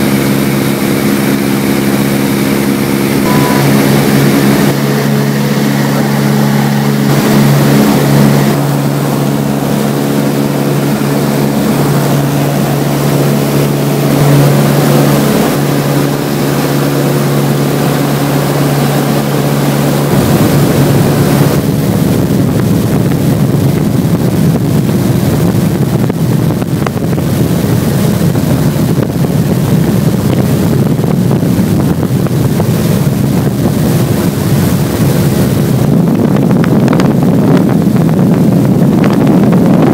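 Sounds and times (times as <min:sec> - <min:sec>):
aircraft engine droning: 0:00.0 - 0:39.9
wind rushing: 0:00.0 - 0:39.9.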